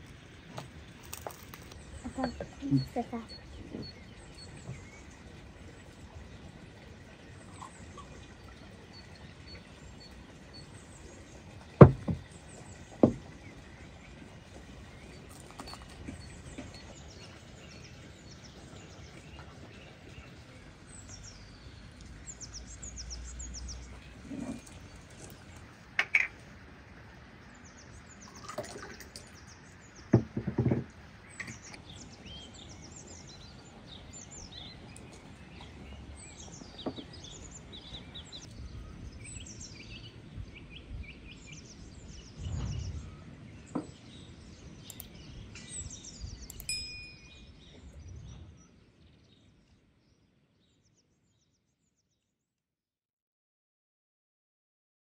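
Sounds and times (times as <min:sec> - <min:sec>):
small birds chirping: 0:00.0 - 0:26.6, 0:27.3 - 0:52.1.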